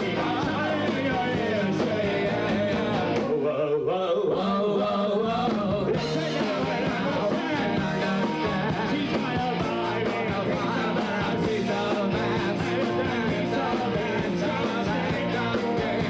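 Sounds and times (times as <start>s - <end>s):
live rock band: 0.0s - 3.6s, 4.4s - 16.0s
person singing: 0.0s - 16.0s.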